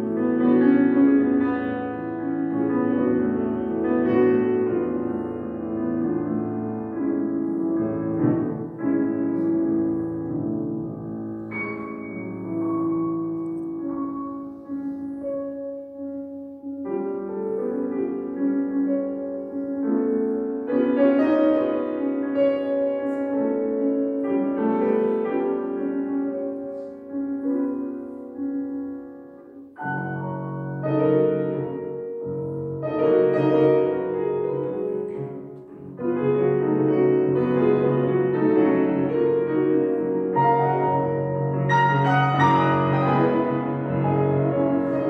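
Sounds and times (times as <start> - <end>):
piano playing slow chords: 0.0 - 45.0.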